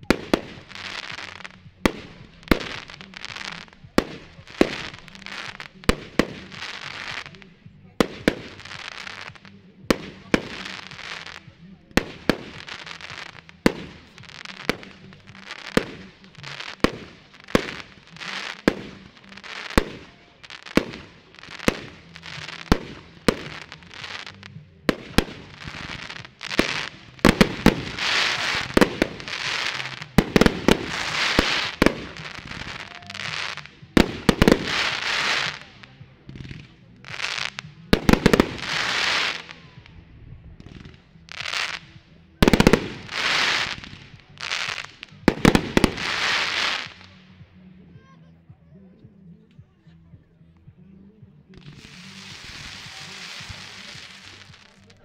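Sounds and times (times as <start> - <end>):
fireworks bangs: 0.0 - 47.2
fireworks crackling: 0.0 - 47.6, 51.5 - 55.0.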